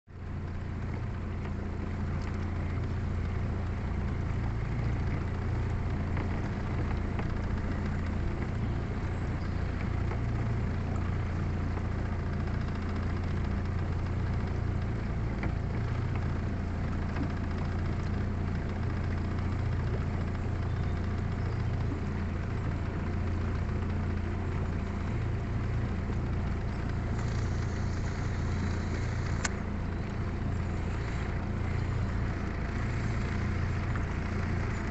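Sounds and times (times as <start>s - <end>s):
motorboat engine humming: 0.1s - 34.9s.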